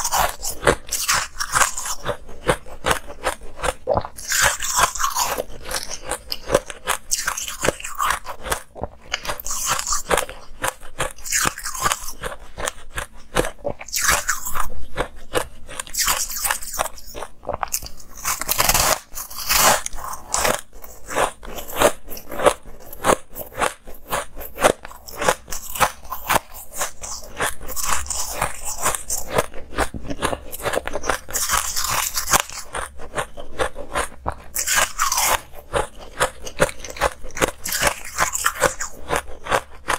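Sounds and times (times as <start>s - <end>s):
chewing crushed ice crunches: 0.0s - 39.9s.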